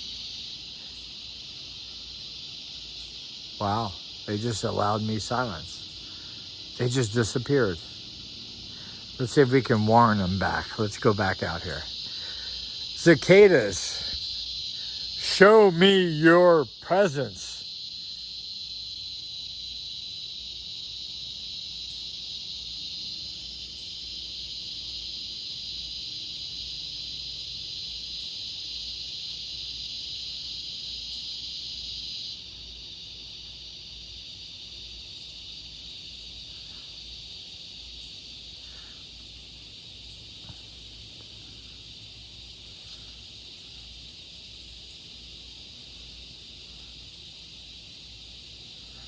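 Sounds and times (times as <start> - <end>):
cicadas buzzing: 0.0 - 49.0.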